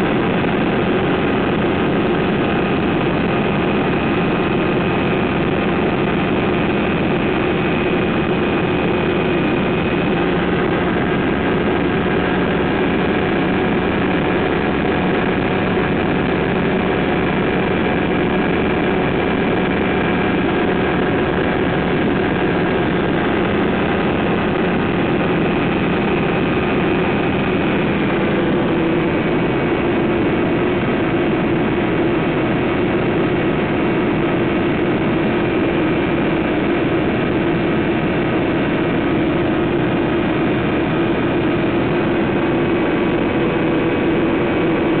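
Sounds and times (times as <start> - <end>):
light aircraft engine and propeller: 0.0 - 45.0
rushing air: 0.0 - 45.0.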